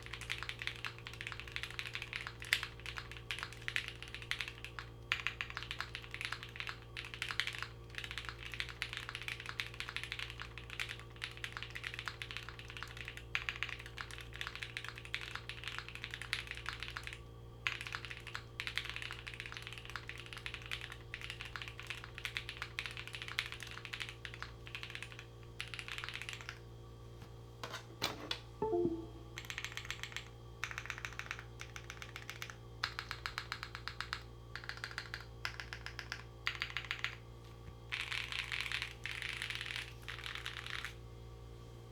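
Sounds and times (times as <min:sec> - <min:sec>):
fast mechanical keyboard typing: 0:00.0 - 0:26.6, 0:29.5 - 0:37.2, 0:37.9 - 0:41.0.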